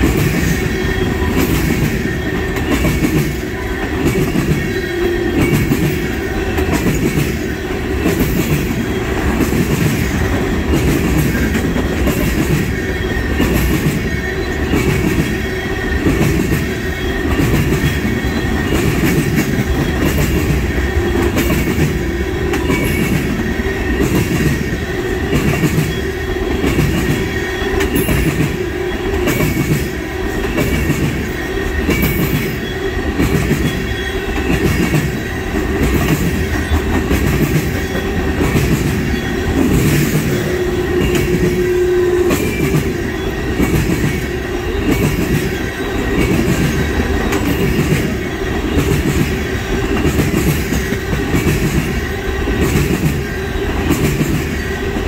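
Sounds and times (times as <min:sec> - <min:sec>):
train wheels rumbling on rail: 0:00.0 - 0:55.0
wheels clickety-clack on rail joints: 0:00.0 - 0:55.0.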